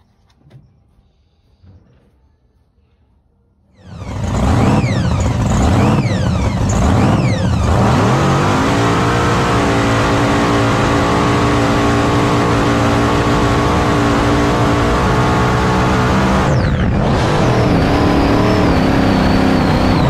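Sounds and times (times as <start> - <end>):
boat engine revving: 3.8 - 20.0.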